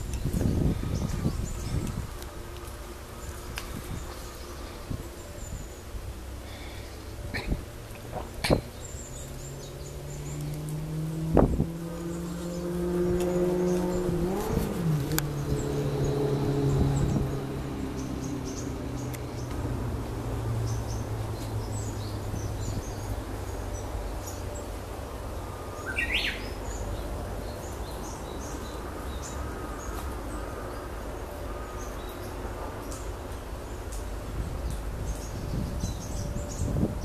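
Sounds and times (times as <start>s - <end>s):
small birds chirping: 0.0s - 19.7s, 20.4s - 37.0s
passing vehicle drone: 0.0s - 37.0s.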